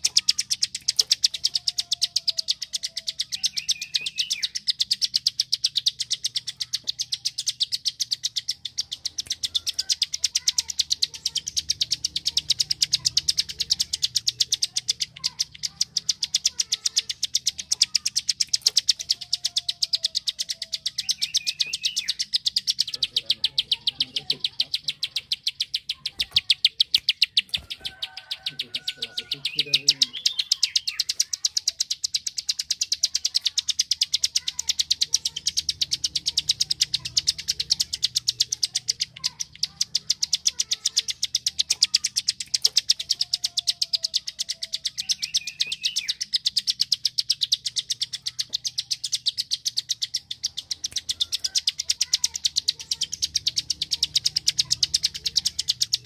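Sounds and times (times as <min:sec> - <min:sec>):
bird chirp: 0:00.0 - 0:56.0
bird rapid clicking call: 0:00.0 - 0:56.0.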